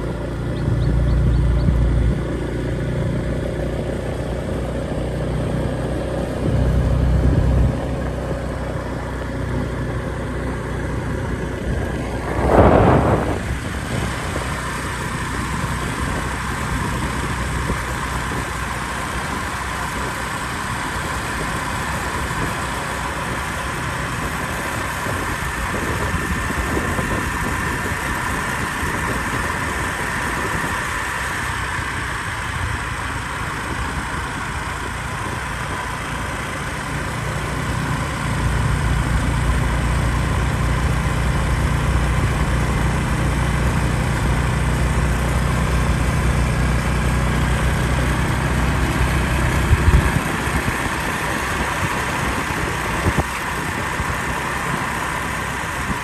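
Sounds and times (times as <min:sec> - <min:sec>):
motor scooter engine running: 0:00.0 - 0:56.0
wind and road noise: 0:00.0 - 0:56.0.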